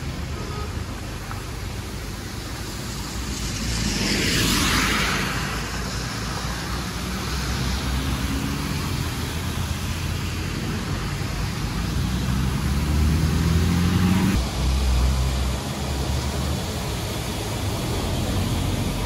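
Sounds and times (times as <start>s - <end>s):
rain hiss on wet road: 0.0s - 19.0s.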